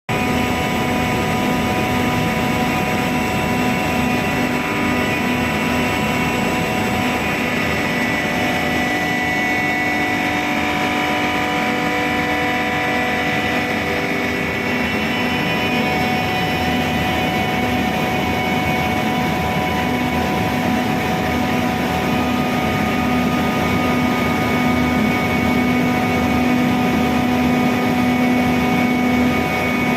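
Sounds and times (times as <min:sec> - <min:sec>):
steady whining tones: 0:00.1 - 0:29.9.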